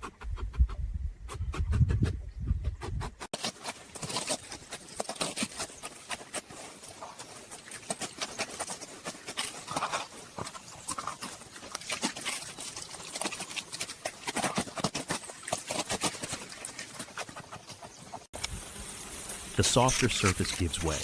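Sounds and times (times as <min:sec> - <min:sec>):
claws scratching on dry earth: 0:02.7 - 0:18.3, 0:18.9 - 0:21.0.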